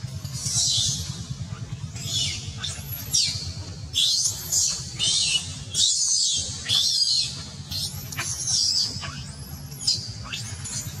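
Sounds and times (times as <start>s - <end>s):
low steady hum: 0.0s - 11.0s
infant monkey crying: 0.1s - 11.0s.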